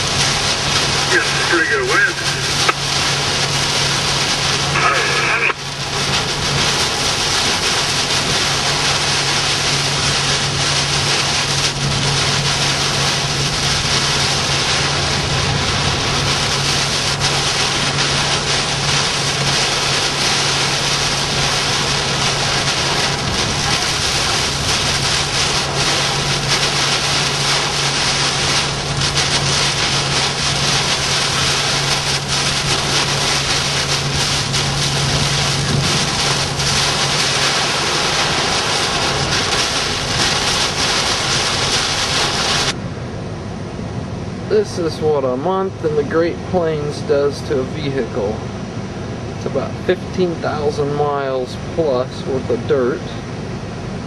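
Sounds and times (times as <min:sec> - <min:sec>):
low vehicle drone: 0:00.0 - 0:54.0
wind and rain rushing: 0:00.0 - 0:54.0.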